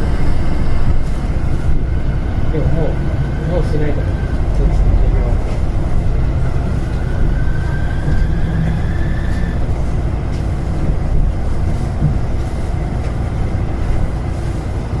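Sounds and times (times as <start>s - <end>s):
tram running gear rumble: 0.0s - 15.0s.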